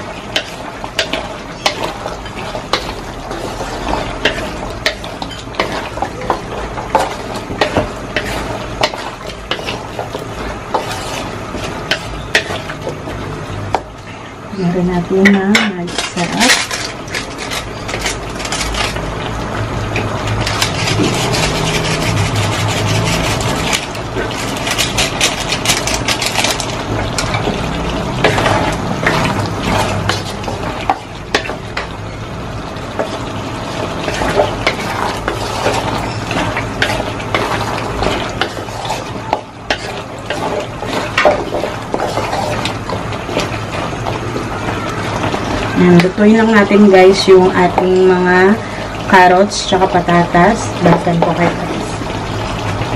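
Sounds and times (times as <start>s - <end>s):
wooden spatula scraping wok: 0.0s - 14.3s, 15.2s - 19.1s, 20.0s - 32.1s, 32.8s - 48.3s
food sizzling: 0.0s - 52.9s.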